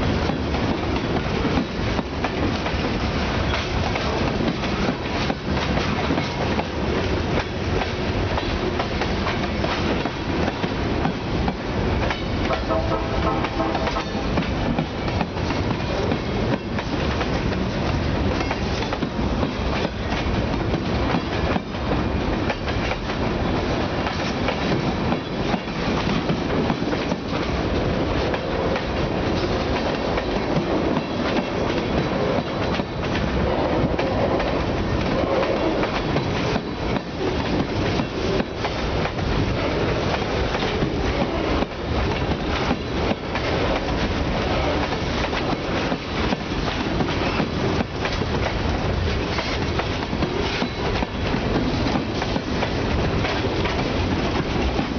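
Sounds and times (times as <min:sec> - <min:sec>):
rumble of wheels on rail: 0:00.0 - 0:54.9
train wheels clacking over rail joints: 0:00.0 - 0:54.9.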